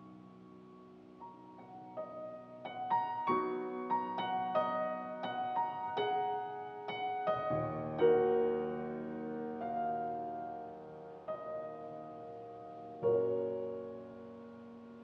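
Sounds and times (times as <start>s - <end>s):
solo grand piano: 0.0s - 15.0s.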